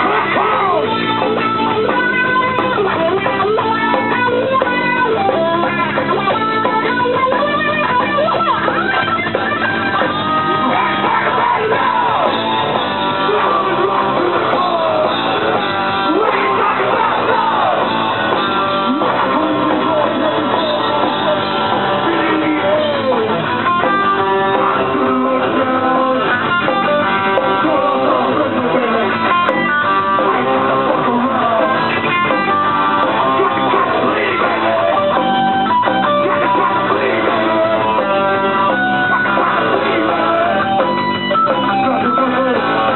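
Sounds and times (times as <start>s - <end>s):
electric guitar lead line: 0.0s - 42.9s
punk rock band playing: 0.0s - 42.9s.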